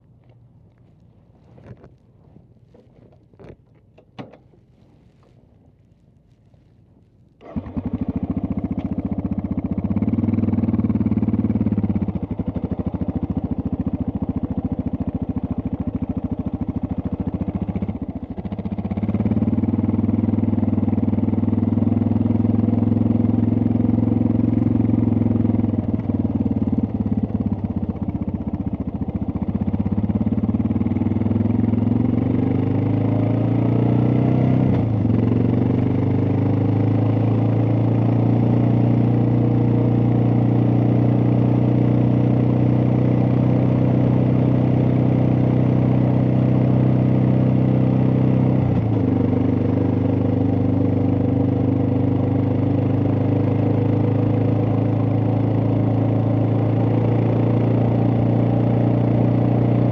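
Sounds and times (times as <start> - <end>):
motorcycle engine starting and idling: 7.3 - 59.9.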